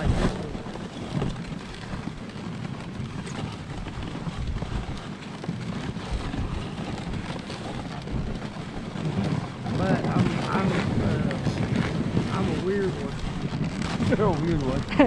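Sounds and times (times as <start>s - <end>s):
dog sled running on trail: 0.0s - 15.0s
wind buffeting microphone: 0.0s - 15.0s.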